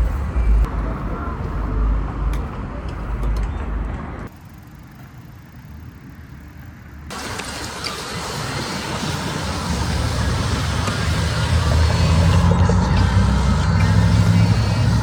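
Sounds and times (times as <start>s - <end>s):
road noise: 0.0s - 15.0s
wind: 0.0s - 15.0s.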